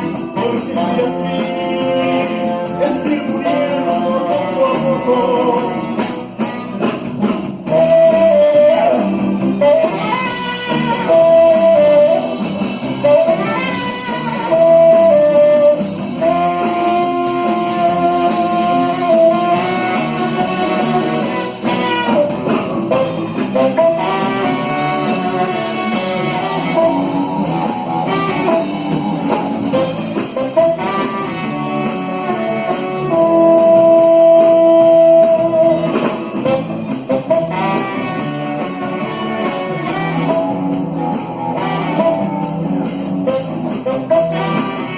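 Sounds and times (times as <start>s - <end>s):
guitar accompaniment: 0.0s - 44.9s.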